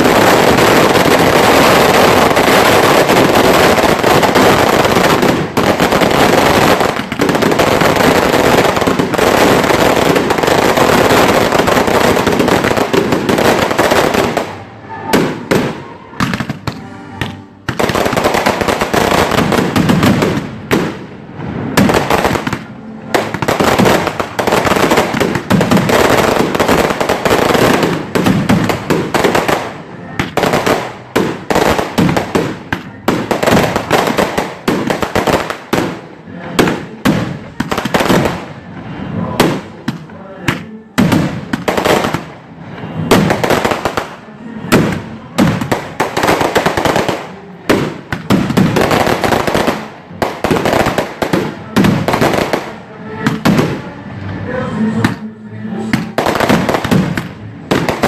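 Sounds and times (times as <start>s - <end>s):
fireworks bangs: 0.0s - 54.0s, 55.8s - 58.0s.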